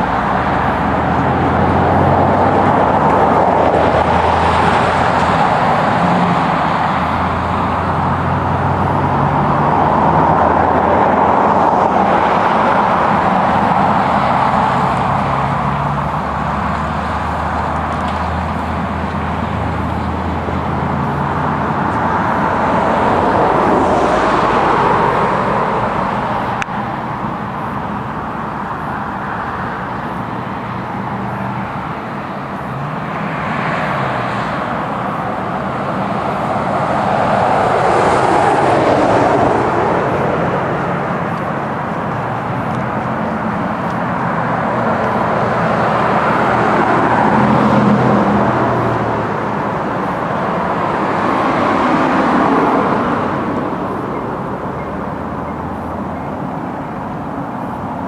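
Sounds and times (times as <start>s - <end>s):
background traffic rush: 0.0s - 58.0s
vehicles passing: 0.0s - 58.0s.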